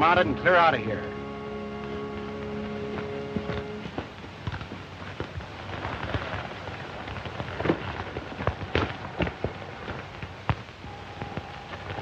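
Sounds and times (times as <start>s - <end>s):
film soundtrack hiss: 0.0s - 12.0s
horse hooves clattering: 0.0s - 12.0s.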